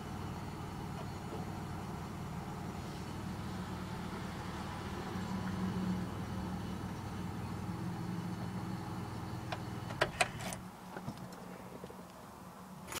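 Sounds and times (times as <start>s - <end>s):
car engine running: 0.0s - 11.3s.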